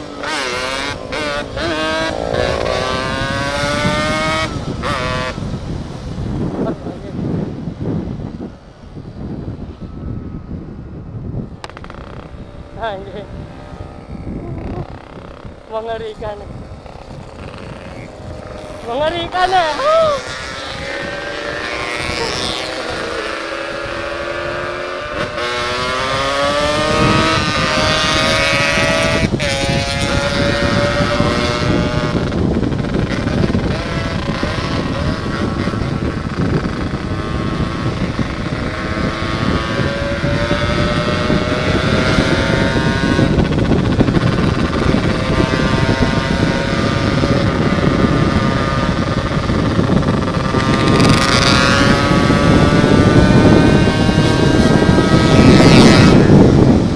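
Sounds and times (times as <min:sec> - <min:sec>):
two-stroke motorcycle engine revving: 0:00.0 - 0:07.4, 0:11.6 - 0:56.9
wind rushing on microphone: 0:00.0 - 0:56.9.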